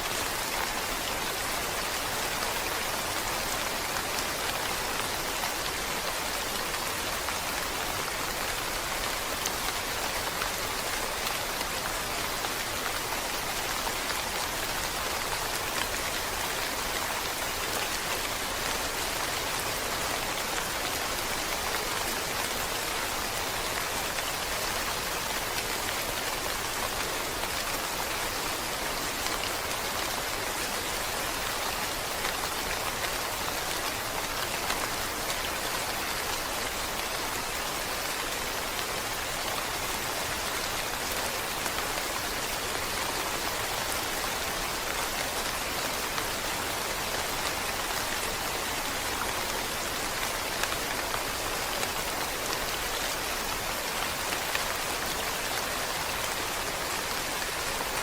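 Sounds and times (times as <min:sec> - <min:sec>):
scattered raindrop patters: 0:00.0 - 0:58.0
steady rain hissing: 0:00.0 - 0:58.0.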